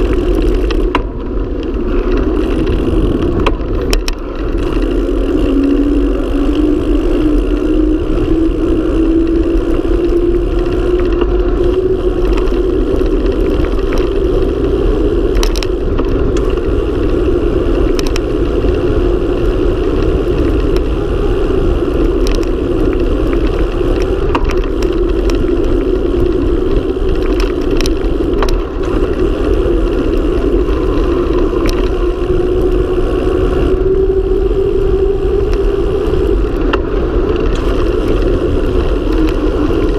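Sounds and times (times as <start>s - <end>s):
bike rattling over bumps: 0.0s - 39.9s
spinning bike wheels humming: 0.0s - 39.9s
wind rushing over microphone: 0.0s - 39.9s.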